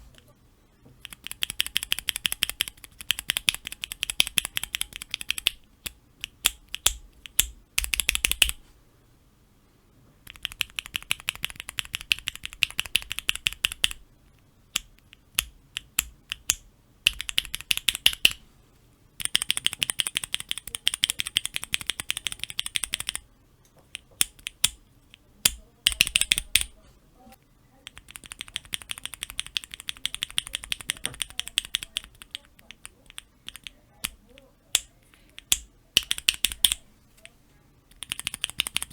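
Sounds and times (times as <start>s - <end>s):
mechanical keyboard switch clacks: 1.0s - 8.6s, 10.2s - 14.0s, 14.8s - 18.4s, 19.2s - 23.2s, 23.9s - 26.7s, 27.8s - 36.8s, 37.9s - 38.9s.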